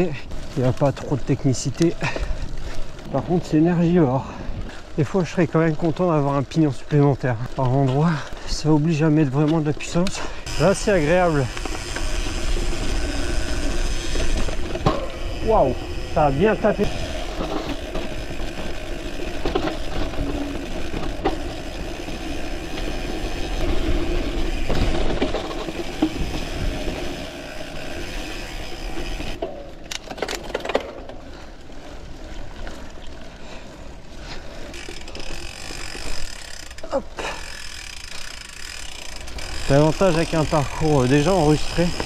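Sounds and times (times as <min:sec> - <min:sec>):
bike rattling: 0:00.0 - 0:42.0
bike tyre noise: 0:00.0 - 0:42.0.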